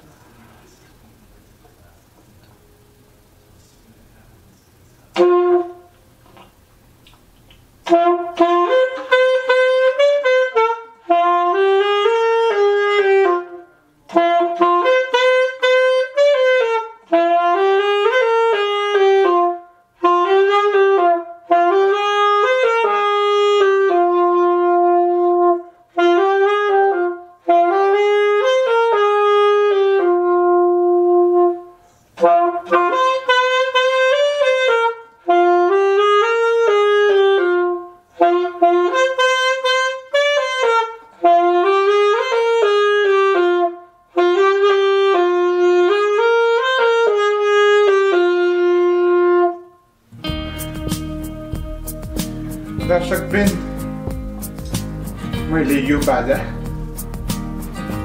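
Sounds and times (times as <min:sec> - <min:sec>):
alto saxophone melody: 0:05.0 - 0:58.0.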